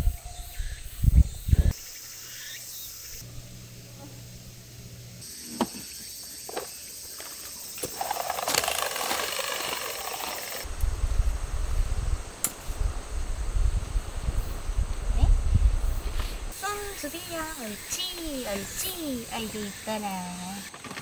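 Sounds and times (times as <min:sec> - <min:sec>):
thin insect chirp: 0:00.0 - 0:04.5, 0:05.2 - 0:13.5, 0:15.8 - 0:20.8.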